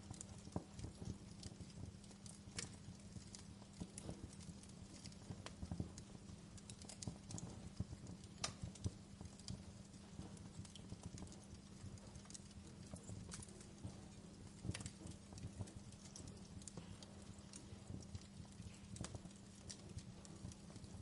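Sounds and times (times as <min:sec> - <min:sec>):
fire snaps and pops: 0:00.0 - 0:21.0
low fire rumble: 0:00.0 - 0:21.0.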